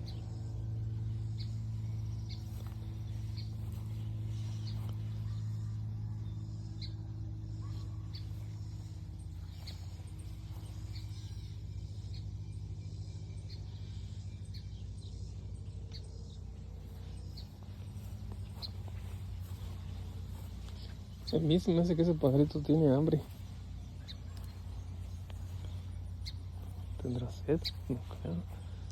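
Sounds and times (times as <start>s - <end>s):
small bird chirping: 0.0s - 28.9s
steady low hum: 0.0s - 28.9s.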